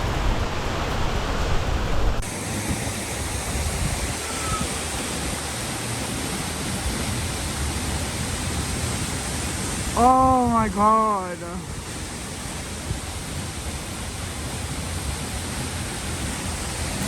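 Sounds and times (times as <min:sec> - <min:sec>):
deep water rumble: 0:00.0 - 0:17.0
waterfall pouring: 0:00.0 - 0:17.0.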